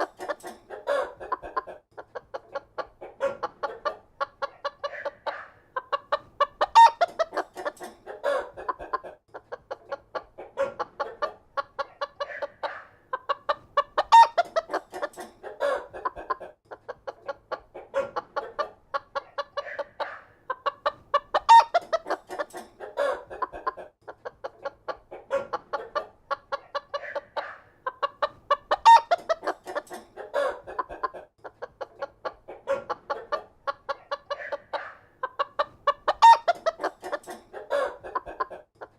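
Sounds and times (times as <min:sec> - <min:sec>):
chicken squawk: 0:00.0 - 0:01.8, 0:02.5 - 0:16.6, 0:17.5 - 0:23.9, 0:24.6 - 0:31.3, 0:32.0 - 0:38.6
chickens clucking: 0:00.0 - 0:38.9.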